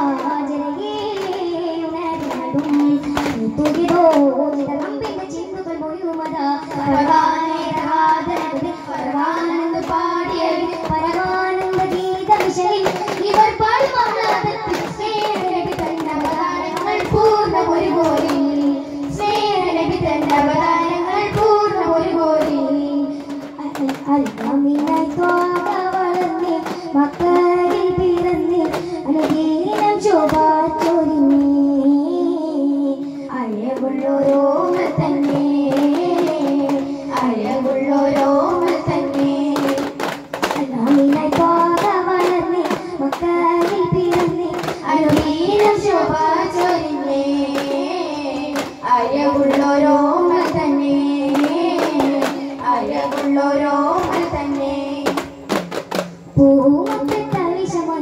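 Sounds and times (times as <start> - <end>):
frame drums beating: 0.0 - 58.0
young voices singing together: 0.0 - 58.0.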